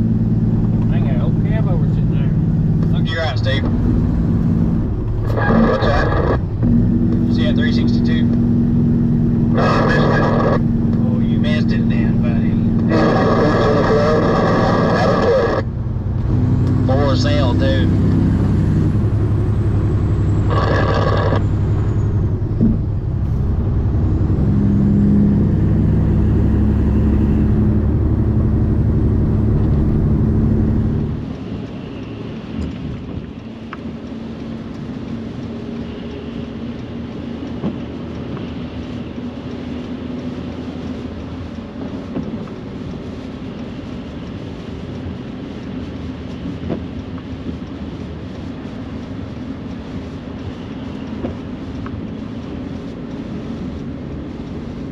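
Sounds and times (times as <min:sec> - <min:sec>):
truck engine rumbling: 0:00.0 - 0:54.9
tyre noise on wet road: 0:00.0 - 0:54.9.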